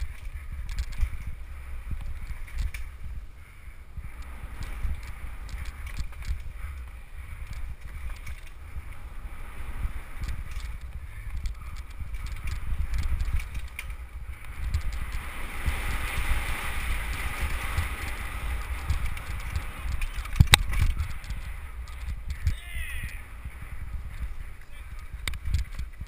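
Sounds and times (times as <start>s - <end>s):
bike rattling over bumps: 0.0s - 26.0s
bike tyres on dirt: 0.0s - 26.0s
wind buffeting microphone: 0.0s - 26.0s.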